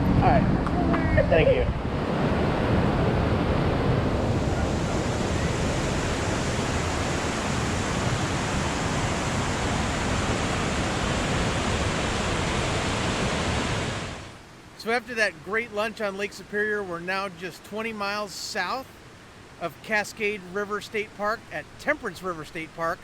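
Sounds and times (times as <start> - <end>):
rushing water: 1.8 - 23.0.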